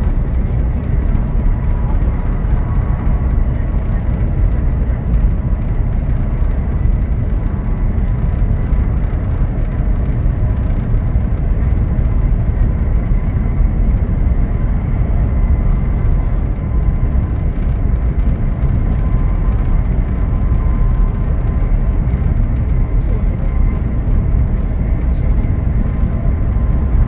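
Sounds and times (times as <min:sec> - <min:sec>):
train rumble and rush: 0:00.0 - 0:27.0.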